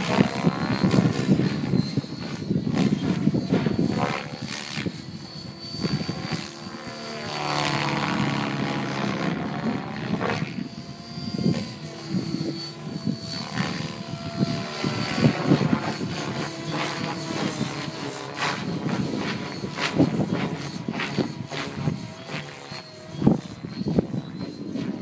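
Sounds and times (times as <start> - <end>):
helicopter rotor blades chopping: 0.0 - 25.0
high motor whine: 0.0 - 25.0.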